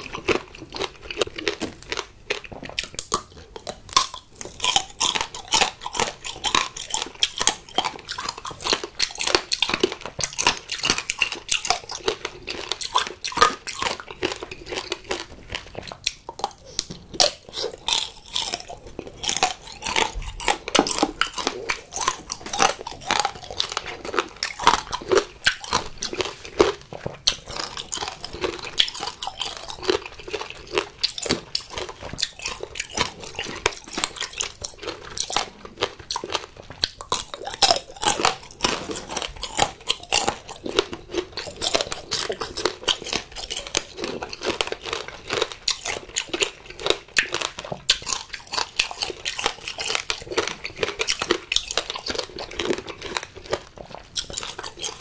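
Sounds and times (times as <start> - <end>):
chewing: 0.0 - 55.0
sugar shell crunching between teeth: 0.0 - 55.0.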